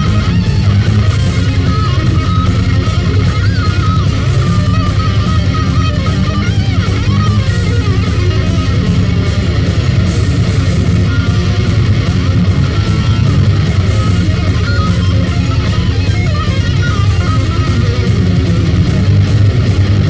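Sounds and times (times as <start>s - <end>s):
electric guitar: 0.0s - 20.0s
rock band playing: 0.0s - 20.0s.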